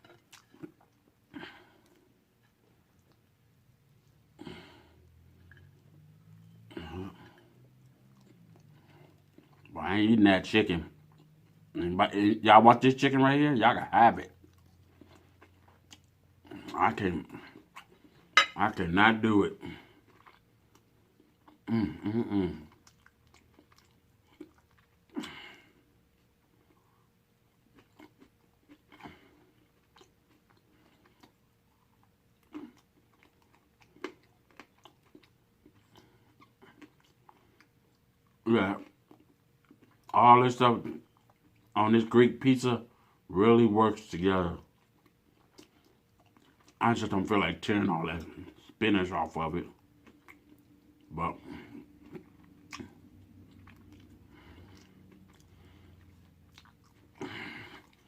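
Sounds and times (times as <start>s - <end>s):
close-up chewing: 0.0s - 9.8s, 14.2s - 18.5s, 19.6s - 21.8s, 22.4s - 40.2s, 40.8s - 41.8s, 44.0s - 58.0s.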